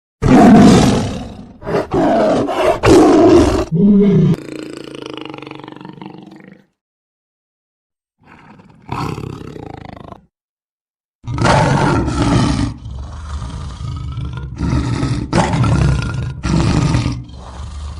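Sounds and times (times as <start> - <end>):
big cat roaring: 0.2 - 6.7, 8.2 - 10.3, 11.2 - 17.9.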